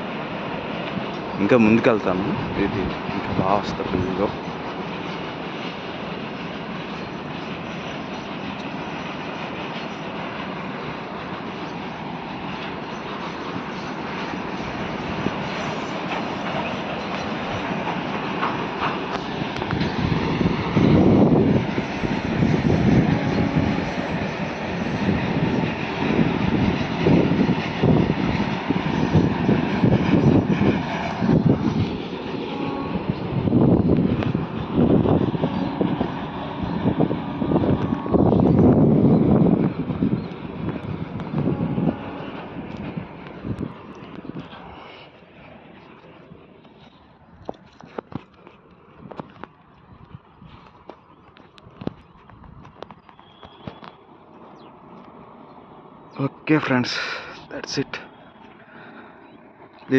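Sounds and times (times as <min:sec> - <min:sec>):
train rumbling on track: 0:00.0 - 0:59.9
wind buffeting microphone: 0:00.7 - 0:56.2.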